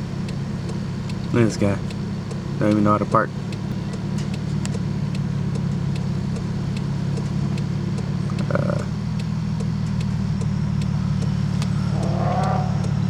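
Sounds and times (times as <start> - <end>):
car engine and road noise: 0.0 - 13.0
even ticking: 0.0 - 13.0.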